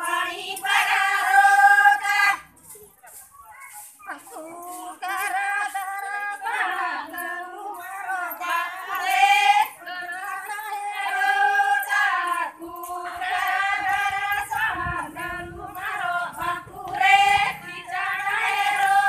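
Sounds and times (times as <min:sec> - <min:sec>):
women singing unaccompanied: 0:00.0 - 0:02.5, 0:04.1 - 0:19.0.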